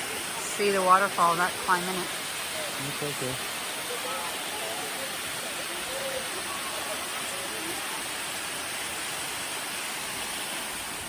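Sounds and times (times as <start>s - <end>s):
faint distant voices: 0.0s - 9.8s
waterfall rushing: 0.0s - 11.0s.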